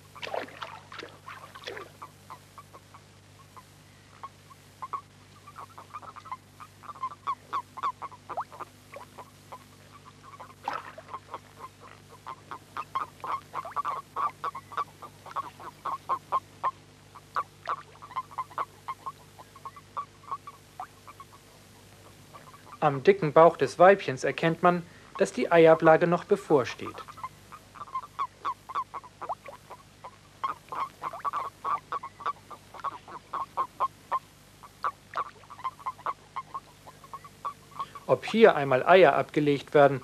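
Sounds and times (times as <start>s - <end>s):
low electrical hum: 0.0s - 40.0s
toads croaking: 0.0s - 40.0s.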